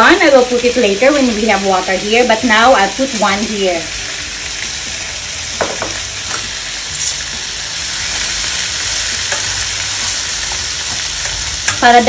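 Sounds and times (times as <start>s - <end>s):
meat and onions sizzling in a pan: 0.0s - 12.0s.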